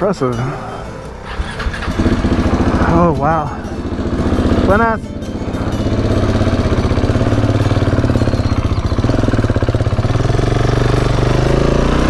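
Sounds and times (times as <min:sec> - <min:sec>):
single-cylinder engine running: 0:00.6 - 0:12.0.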